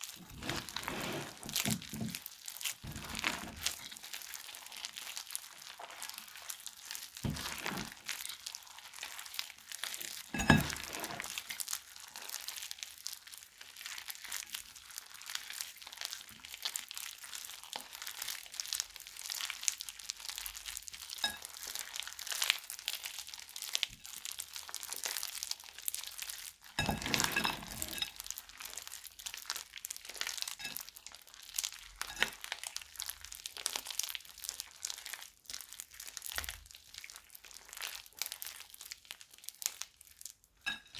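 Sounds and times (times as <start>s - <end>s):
crunchy slime crackling: 0.0s - 26.8s, 27.7s - 40.4s.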